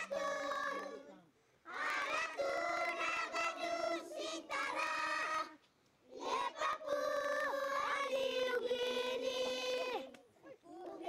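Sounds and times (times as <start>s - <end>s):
voices singing long held notes: 0.0s - 1.1s, 1.7s - 5.6s, 6.2s - 10.1s.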